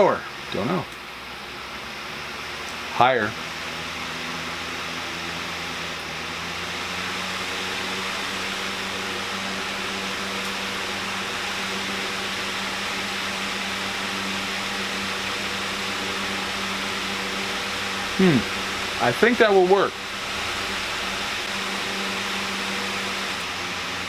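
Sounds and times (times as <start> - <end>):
desk fan air rush: 0.0 - 24.0
fan motor hum: 0.0 - 24.0.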